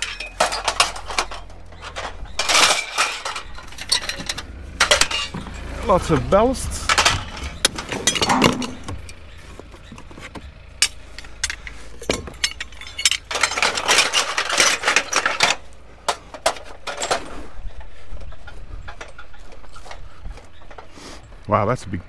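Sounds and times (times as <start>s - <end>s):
scrap metal clattering: 0.0s - 21.3s.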